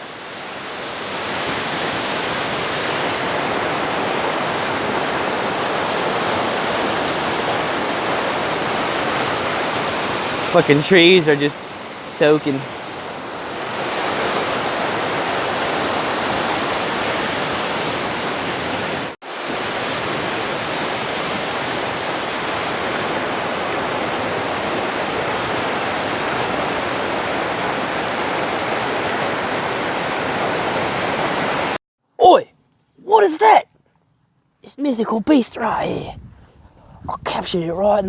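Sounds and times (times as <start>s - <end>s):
river water rushing through rapids: 0.1s - 31.8s.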